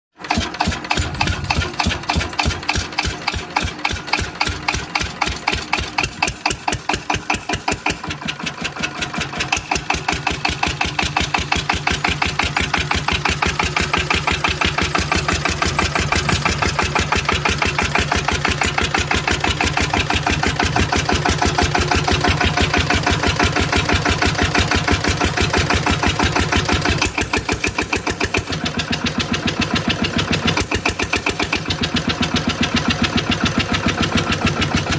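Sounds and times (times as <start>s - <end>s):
single-cylinder engine running: 0.2s - 34.9s.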